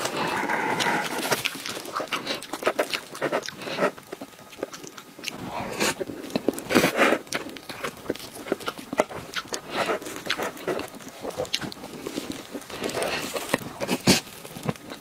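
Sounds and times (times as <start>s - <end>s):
wet chewing and lip smacks: 0.7s - 5.4s, 7.3s - 15.0s.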